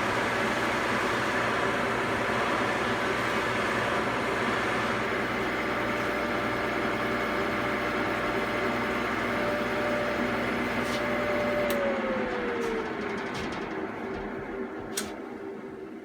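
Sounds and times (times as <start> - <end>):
buffing machine motor: 1.8 - 15.2.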